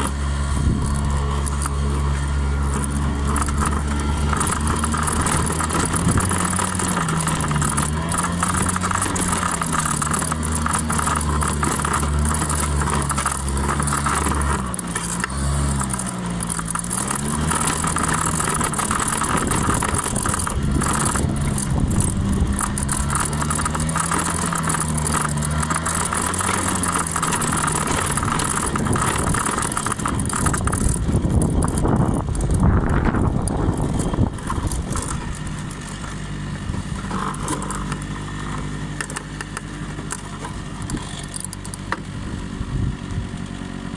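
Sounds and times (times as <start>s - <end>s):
scooter engine running: 0.0s - 43.9s.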